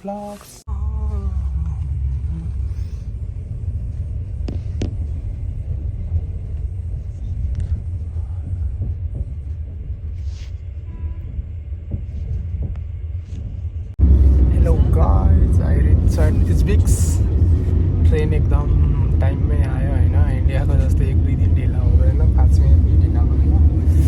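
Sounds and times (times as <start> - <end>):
steady low rumble: 0.6 - 24.0.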